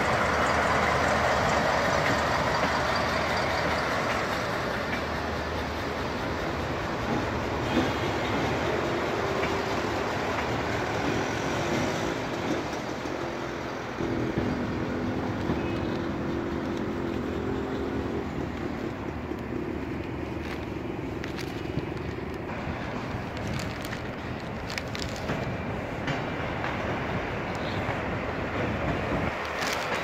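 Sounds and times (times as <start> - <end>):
diesel locomotive engine running: 0.0 - 30.0
train wheels rolling on track: 0.0 - 30.0.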